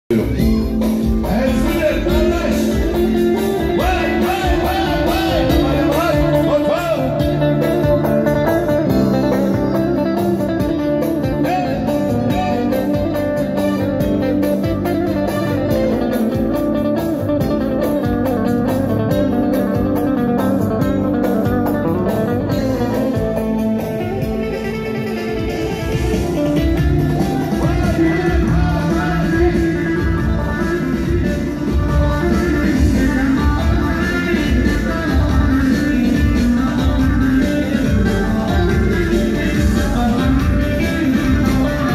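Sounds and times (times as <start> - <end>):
keyboards: 0.1 - 41.9
plucked saz melody: 0.1 - 41.9
steady beat: 0.1 - 41.9.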